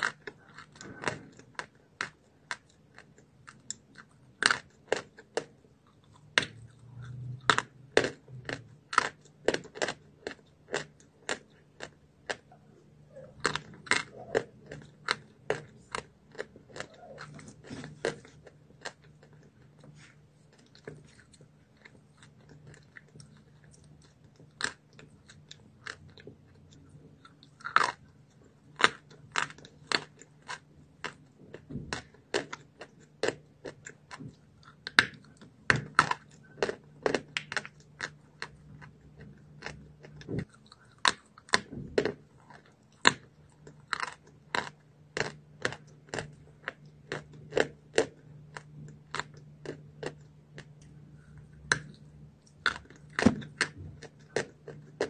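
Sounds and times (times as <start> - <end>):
chalk crunching and chewing: 0.0 - 55.0
faint low hum: 0.0 - 55.0.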